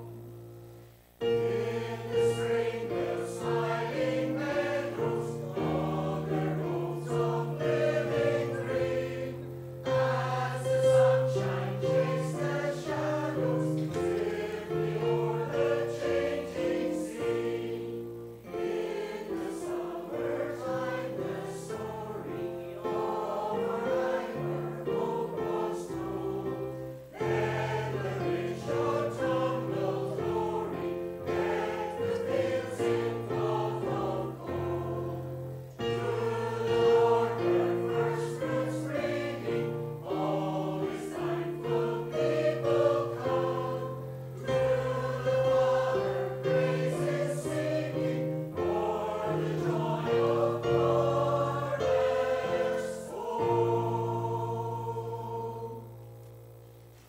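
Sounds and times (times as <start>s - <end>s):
church choir singing: 0.0s - 57.0s
keyboard accompaniment: 0.0s - 57.0s.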